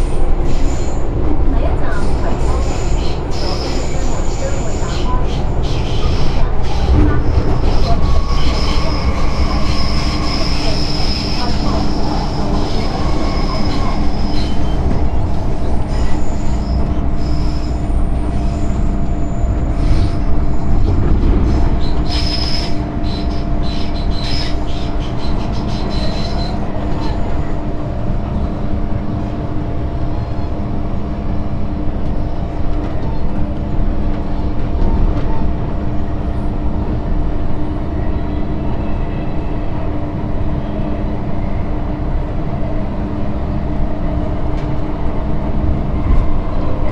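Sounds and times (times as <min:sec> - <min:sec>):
train wheels rumbling: 0:00.0 - 0:46.9.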